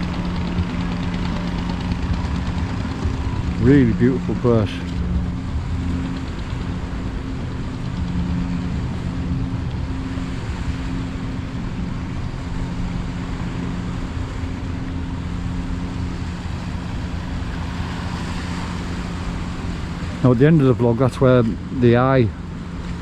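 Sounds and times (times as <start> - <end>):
engine-like hum: 0.0 - 23.0
low rumble and hiss: 0.0 - 23.0.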